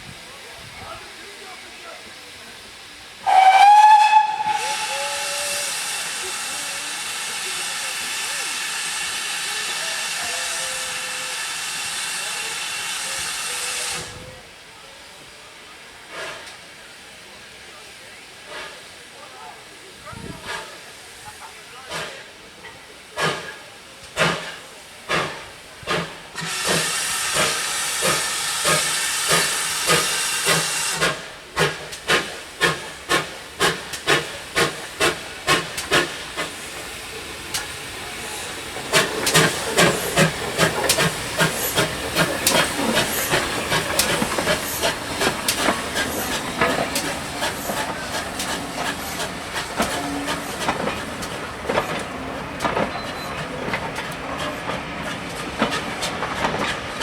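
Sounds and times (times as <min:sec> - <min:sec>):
loud hiss of steam: 0:00.0 - 0:57.0
steam locomotive chuffing: 0:00.0 - 0:57.0.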